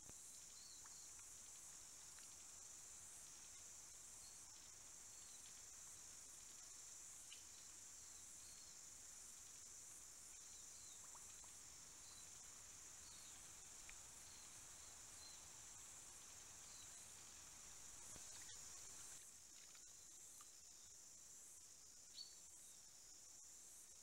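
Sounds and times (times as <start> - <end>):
faint high hiss: 0.0 - 24.0.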